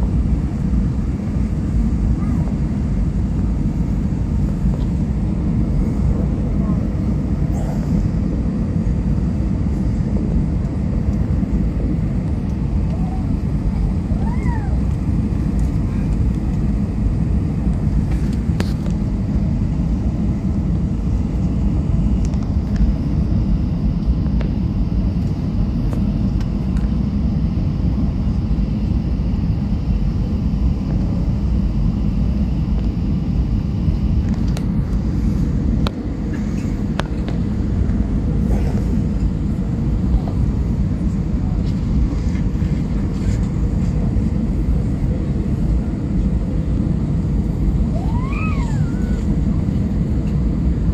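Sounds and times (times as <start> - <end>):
airliner cabin engine rush: 0.0 - 50.9.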